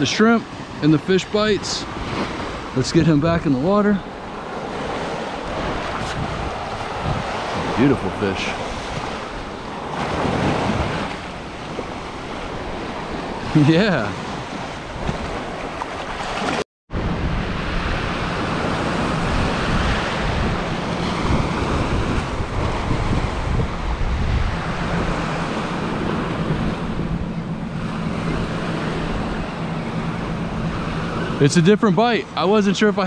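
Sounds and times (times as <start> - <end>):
small waves breaking on sand: 0.0 - 16.6, 17.2 - 33.0
wind buffeting microphone: 0.0 - 33.0.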